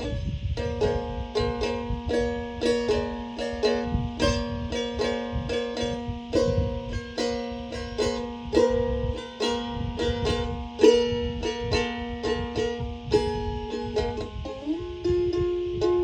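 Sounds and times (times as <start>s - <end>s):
plucked string instrument: 0.0s - 16.0s.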